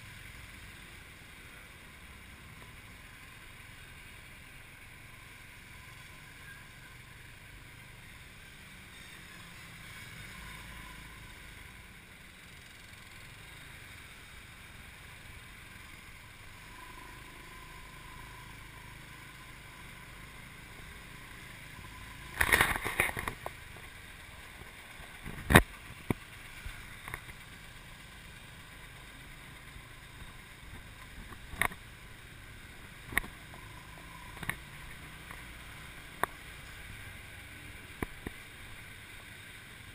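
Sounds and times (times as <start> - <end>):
traffic noise: 0.0 - 39.9.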